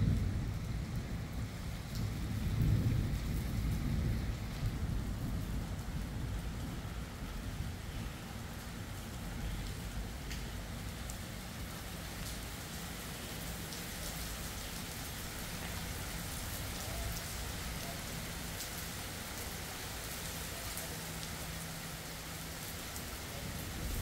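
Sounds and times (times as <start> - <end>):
raindrops ticking on surfaces: 0.0 - 24.0
steady rain falling: 0.0 - 24.0.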